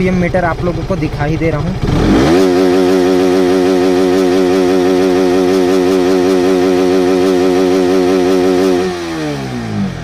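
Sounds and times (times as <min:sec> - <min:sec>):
motorcycle engine on rev limiter: 0:01.7 - 0:10.0.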